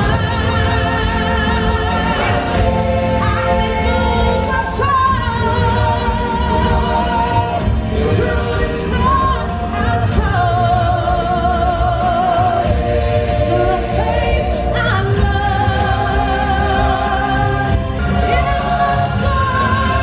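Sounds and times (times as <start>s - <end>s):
people singing with vibrato: 0.0s - 20.0s.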